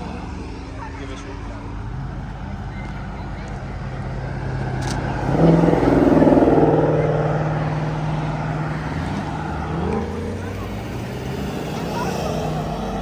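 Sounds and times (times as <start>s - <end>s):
idling engine low hum: 0.0s - 13.0s
car accelerating away: 1.2s - 13.0s.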